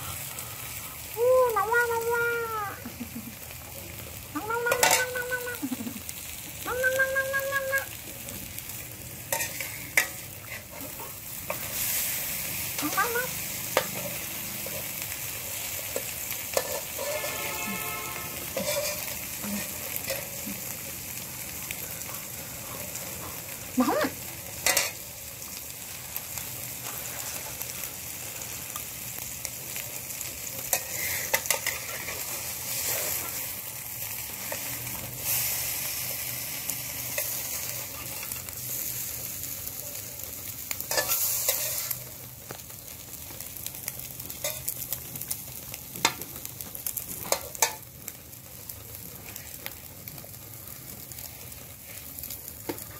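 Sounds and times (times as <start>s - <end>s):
food sizzling in a frying pan: 0.0s - 52.9s.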